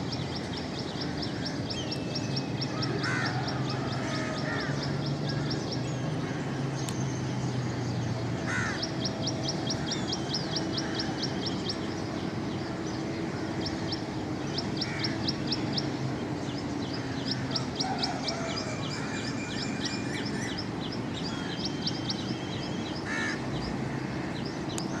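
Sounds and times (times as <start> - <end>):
birds chirping rapidly: 0.0 - 25.0
harsh bird calls: 0.0 - 25.0.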